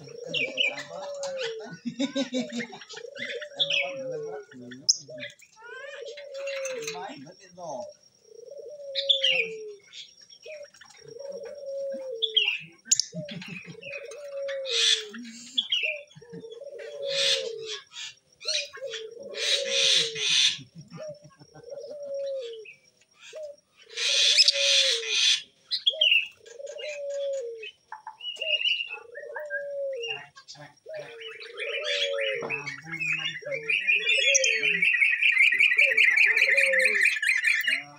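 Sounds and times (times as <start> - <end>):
dove cooing: 0.0 - 37.9
lovebirds chirping and screeching: 0.0 - 37.9.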